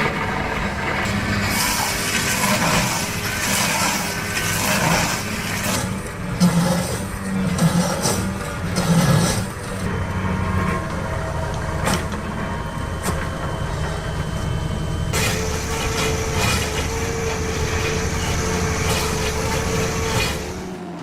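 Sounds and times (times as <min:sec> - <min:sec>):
heavy machine engine running: 0:00.0 - 0:21.0
steady whine: 0:00.0 - 0:21.0.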